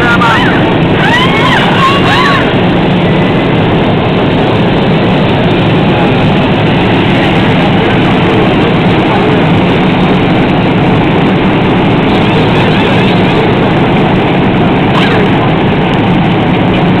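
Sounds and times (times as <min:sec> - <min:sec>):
many race car engines running: 0:00.0 - 0:17.0.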